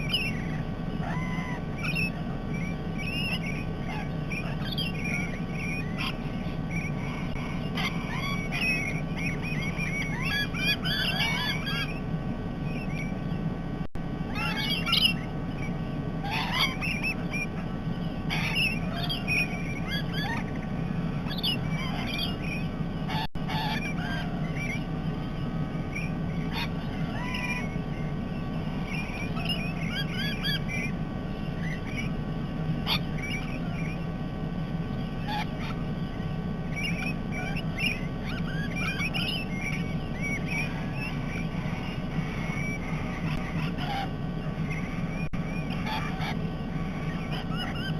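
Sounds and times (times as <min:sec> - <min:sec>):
parrots squawking and chirping: 0:00.0 - 0:13.5, 0:14.3 - 0:47.9
steady low hum: 0:00.0 - 0:47.9.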